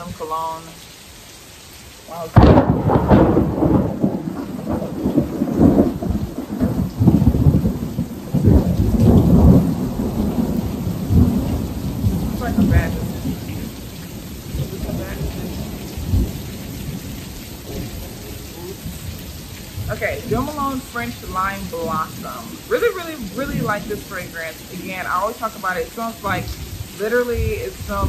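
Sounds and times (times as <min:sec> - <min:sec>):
heavy rain: 0:00.0 - 0:28.0
deep thunder rumbling: 0:02.1 - 0:28.0.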